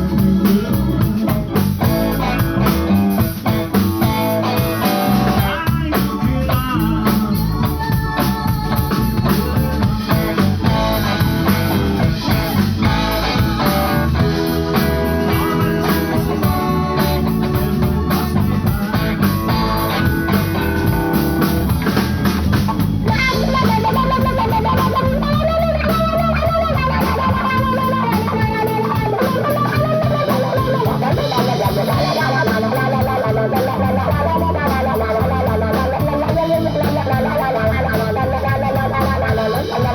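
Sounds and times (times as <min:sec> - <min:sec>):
lead guitar bending notes: 0:00.0 - 0:39.9
live blues rock band: 0:00.0 - 0:39.9.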